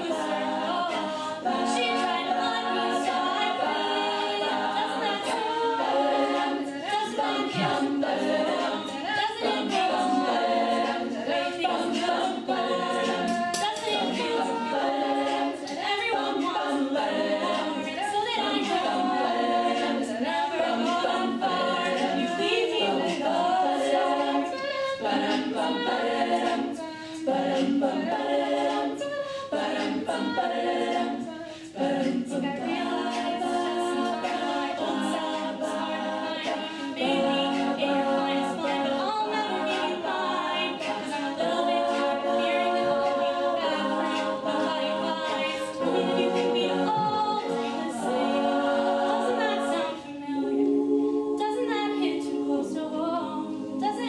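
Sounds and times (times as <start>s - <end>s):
women singing a cappella: 0.0s - 54.0s.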